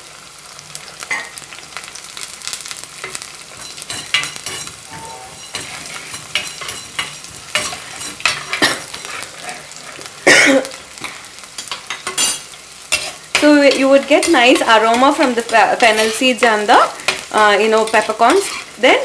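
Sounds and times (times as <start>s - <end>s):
seeds frying hiss: 0.0s - 19.0s
spatula scraping a pan: 2.9s - 10.2s, 10.9s - 19.0s.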